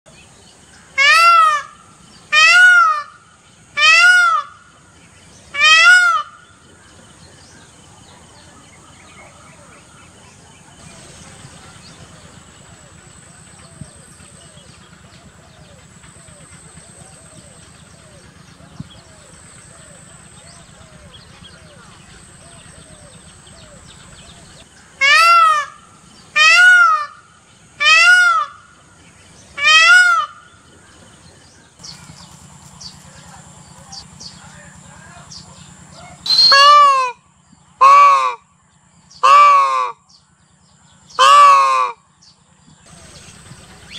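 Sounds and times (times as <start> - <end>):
peacock calling: 0.3 - 43.9.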